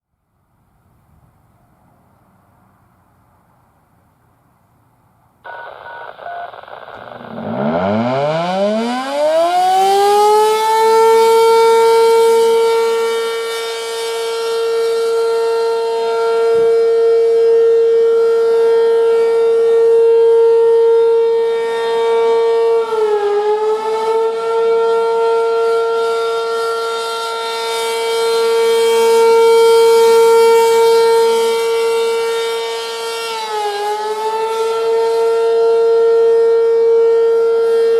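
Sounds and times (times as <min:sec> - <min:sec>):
warning siren whine: 0:05.5 - 0:37.9.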